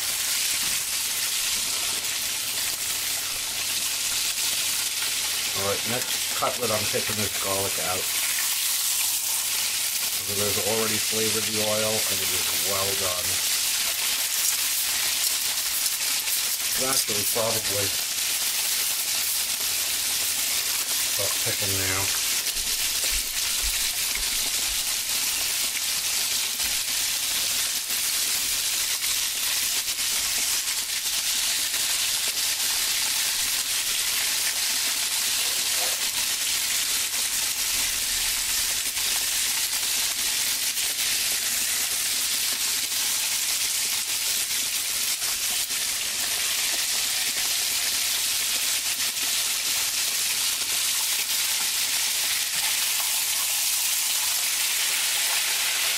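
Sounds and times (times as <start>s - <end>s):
cutlet sizzling in hot oil: 0.0s - 55.9s.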